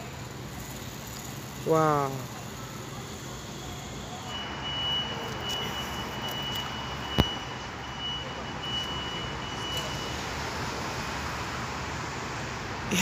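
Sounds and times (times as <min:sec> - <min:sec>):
faint high-pitched beeping: 0:00.0 - 0:10.4
street background noise: 0:00.0 - 0:13.0.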